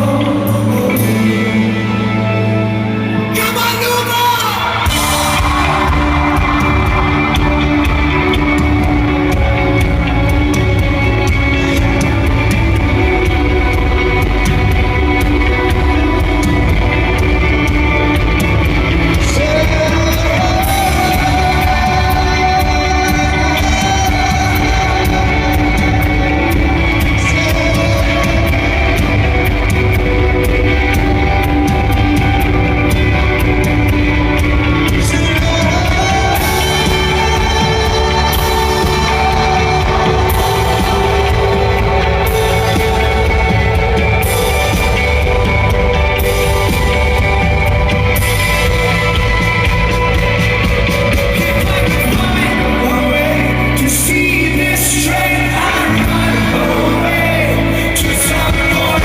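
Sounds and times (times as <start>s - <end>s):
person singing lead vocal: 0.0s - 59.0s
rock band playing live: 0.0s - 59.0s.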